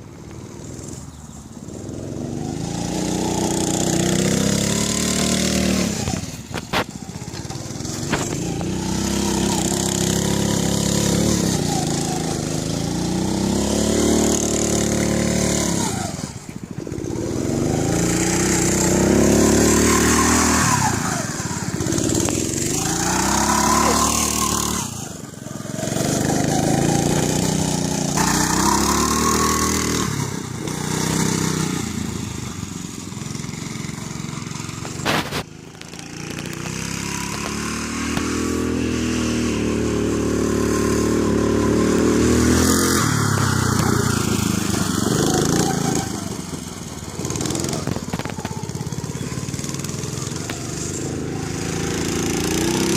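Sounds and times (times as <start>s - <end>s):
go-kart engine revving: 0.0s - 52.9s.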